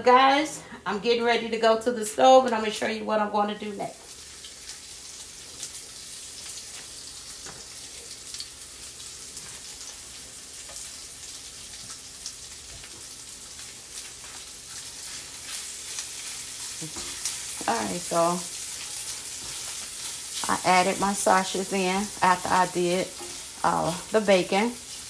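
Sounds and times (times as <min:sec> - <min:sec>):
sausage sizzling in a frying pan: 0:03.6 - 0:25.0.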